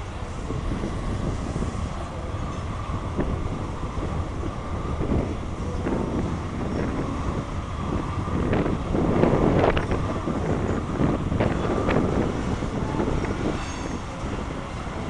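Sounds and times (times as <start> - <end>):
freight train rumbling past: 0.0 - 15.0
wind on microphone: 0.0 - 15.0.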